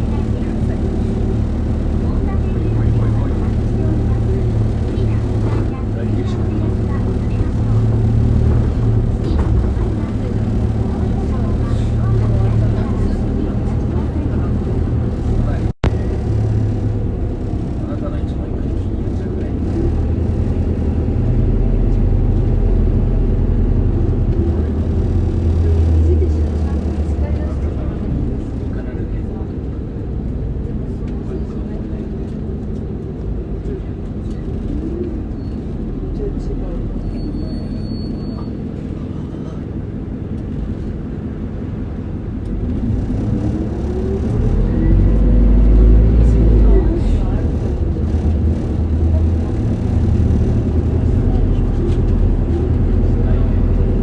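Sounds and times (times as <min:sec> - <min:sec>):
bus engine humming: 0:00.0 - 0:54.0
road rumble: 0:00.0 - 0:54.0.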